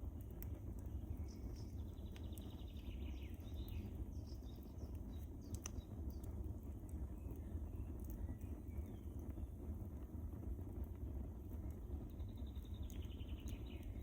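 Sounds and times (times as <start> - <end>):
fire crackles and pops: 0.0 - 14.0
fire flames rumbling: 0.0 - 14.0.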